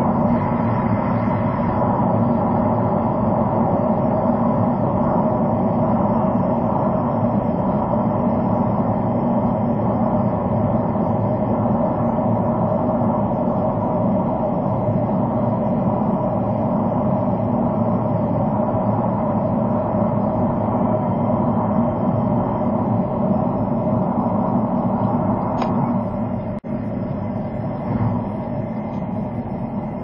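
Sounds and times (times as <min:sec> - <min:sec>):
car tyre and engine drone: 0:00.0 - 0:30.0.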